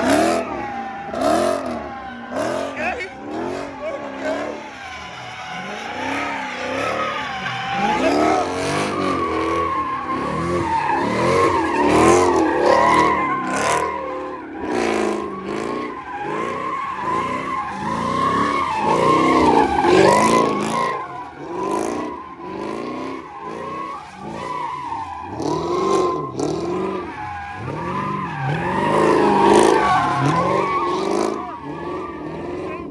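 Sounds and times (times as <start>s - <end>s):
car engine revving: 0.0s - 32.9s
tires squealing: 0.0s - 32.9s.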